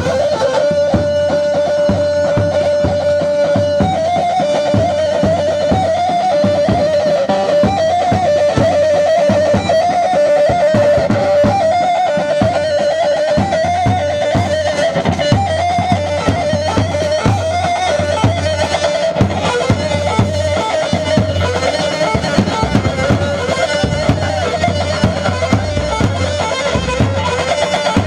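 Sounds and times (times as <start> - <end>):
plucked string melody: 0.0 - 28.0
steady drum beat: 0.0 - 28.0.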